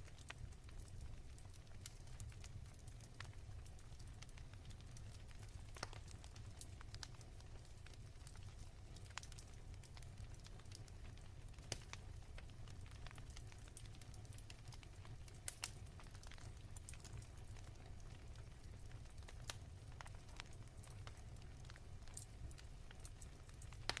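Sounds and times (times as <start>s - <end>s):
low steady fire rumble: 0.0s - 24.0s
wood fire crackling and popping: 0.0s - 24.0s.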